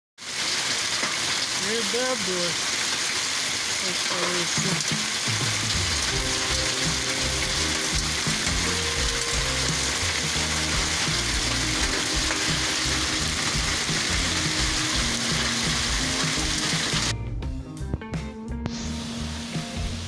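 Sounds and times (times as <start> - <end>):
heavy rain and hail: 0.2 - 17.2.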